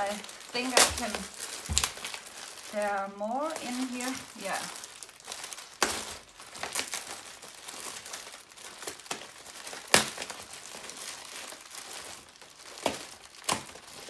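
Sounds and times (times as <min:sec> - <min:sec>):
plastic packaging crinkling: 0:00.0 - 0:14.0
sharp plastic crackles: 0:00.0 - 0:14.0.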